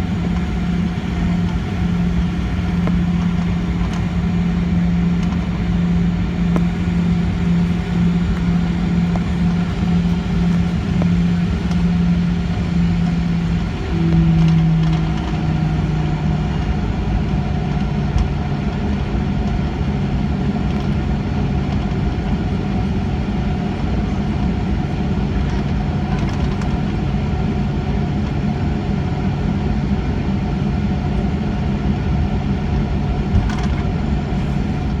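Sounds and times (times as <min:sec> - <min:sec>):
jet engines droning: 0:00.0 - 0:35.0.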